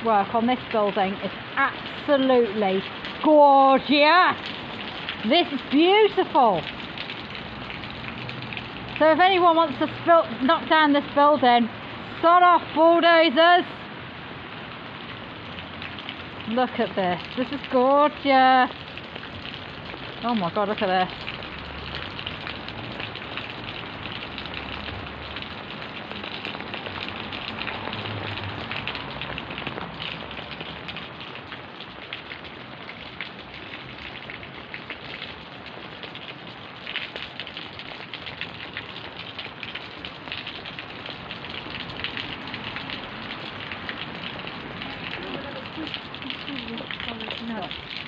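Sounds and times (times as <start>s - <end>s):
steady rain falling: 0.0s - 48.0s
raindrop hits: 0.1s - 12.8s, 14.8s - 48.0s.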